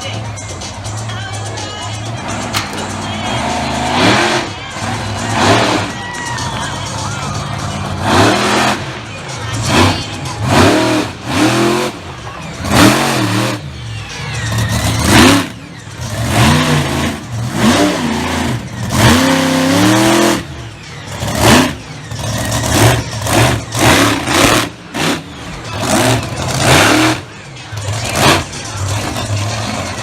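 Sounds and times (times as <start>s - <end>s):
monster truck engine revving: 1.9s - 30.0s.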